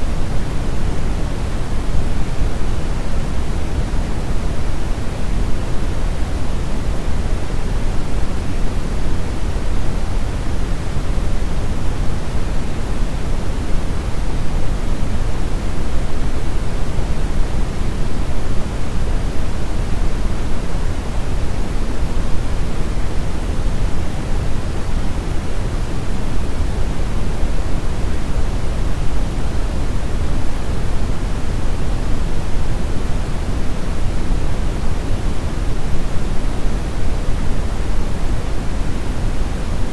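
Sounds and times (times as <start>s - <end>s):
steady brown noise: 0.0s - 39.9s.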